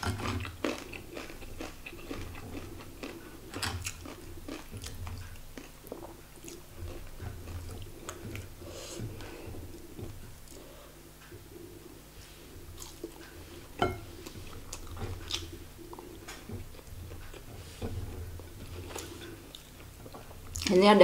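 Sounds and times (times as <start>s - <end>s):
person chewing crunchy food: 0.0s - 10.8s, 12.7s - 20.7s.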